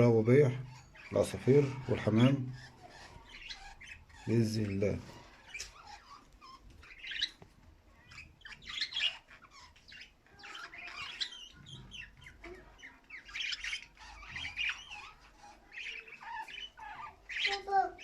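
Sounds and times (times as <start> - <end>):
cage birds chirping and squawking: 0.0 - 18.0.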